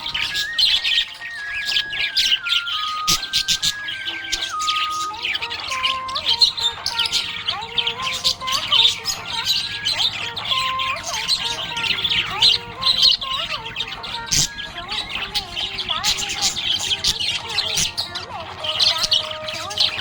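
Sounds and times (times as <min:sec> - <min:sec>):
bird whistling notes: 0:00.0 - 0:20.0
budgerigars chirping: 0:00.0 - 0:20.0.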